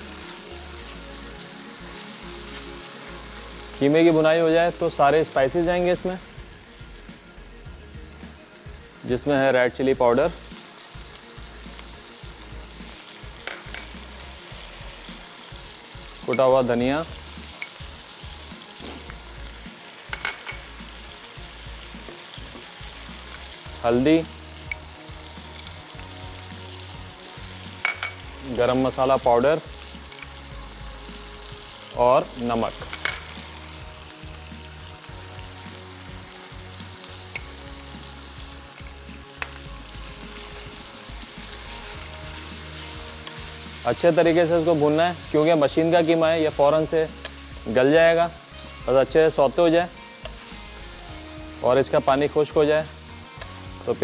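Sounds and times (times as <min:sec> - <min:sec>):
meat sizzling in a pan: 0:00.0 - 0:54.0.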